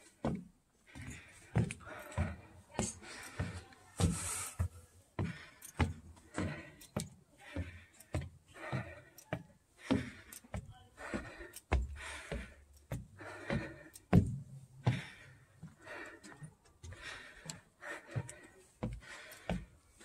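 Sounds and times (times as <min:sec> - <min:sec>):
footsteps walking: 0:00.0 - 0:20.0.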